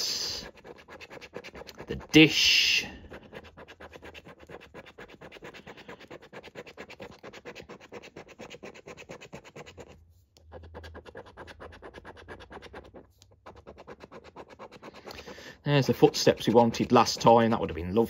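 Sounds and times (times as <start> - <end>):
scratching a scratchcard: 0.0 - 18.0.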